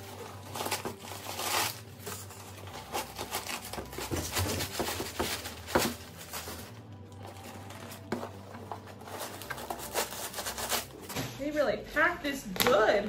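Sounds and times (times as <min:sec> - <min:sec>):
packing paper crinkling: 0:00.0 - 0:11.1
music: 0:00.0 - 0:13.0.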